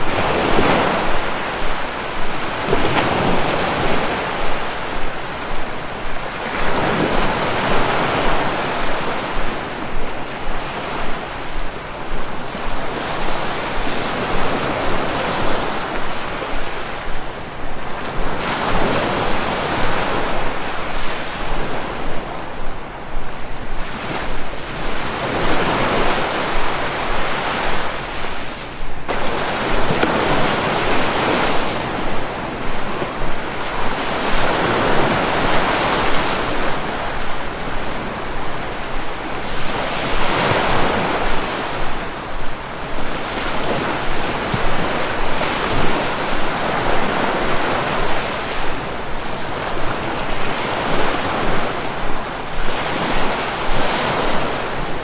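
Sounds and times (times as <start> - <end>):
sea waves breaking ashore: 0.0 - 55.0.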